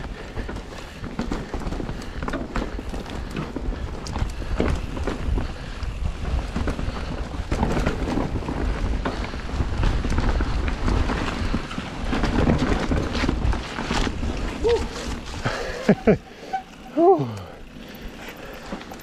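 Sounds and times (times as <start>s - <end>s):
wind rumbling on microphone: 0.0s - 16.2s
bike rattling and knocking: 0.0s - 19.0s.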